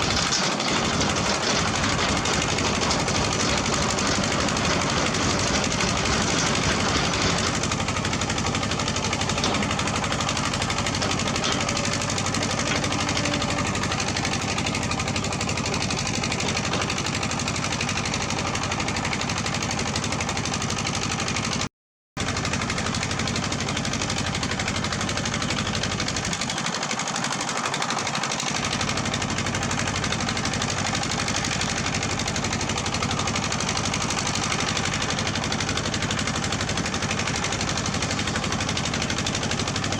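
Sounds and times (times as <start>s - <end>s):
diesel earthmoving equipment running: 0.0s - 21.6s, 22.2s - 39.9s.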